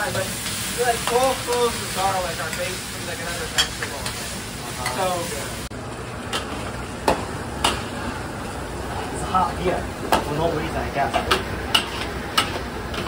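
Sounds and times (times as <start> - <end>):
meat sizzling in wok: 0.0 - 13.0.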